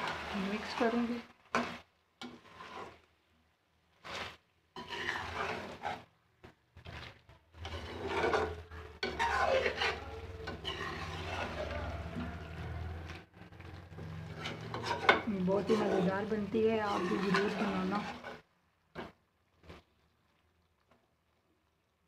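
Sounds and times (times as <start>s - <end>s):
spatula scraping metal pan: 0.0s - 3.1s, 3.9s - 20.0s.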